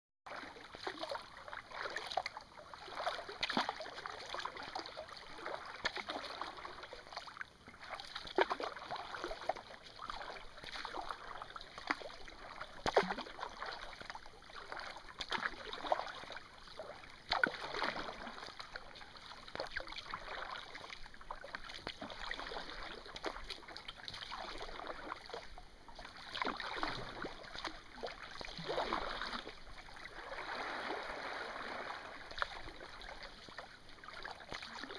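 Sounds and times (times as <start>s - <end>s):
kayak paddle strokes in water: 0.3s - 34.9s
water splashing and dripping: 0.3s - 34.9s.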